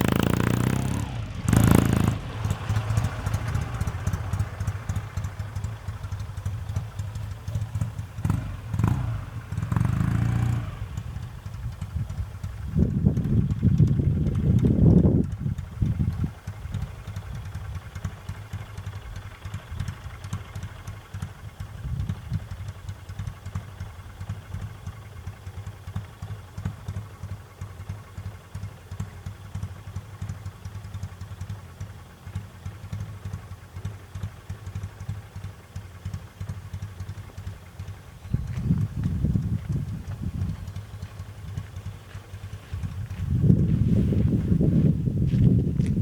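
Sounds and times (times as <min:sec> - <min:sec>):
motorcycle engine idling: 0:00.0 - 0:46.0.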